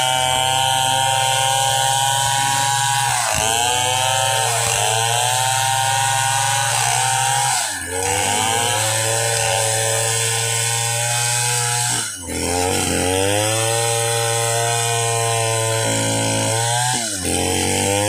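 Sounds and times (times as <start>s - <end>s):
chainsaw cutting timber: 0.0s - 18.0s.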